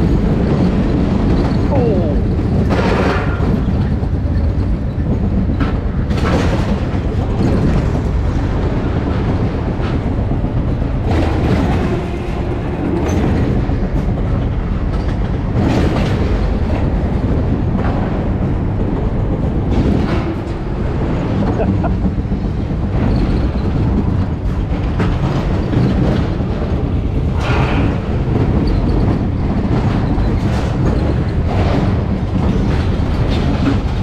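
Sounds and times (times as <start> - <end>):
roller coaster wheels rumbling: 0.0 - 34.0.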